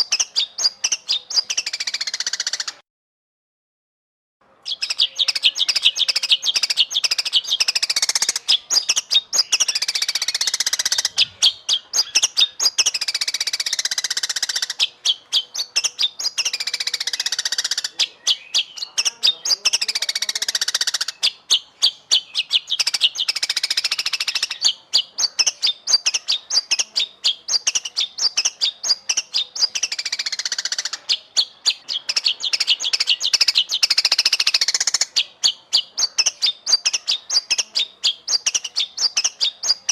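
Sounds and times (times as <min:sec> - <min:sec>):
bird singing chips and whistles: 0:00.0 - 0:02.8, 0:04.6 - 0:39.9.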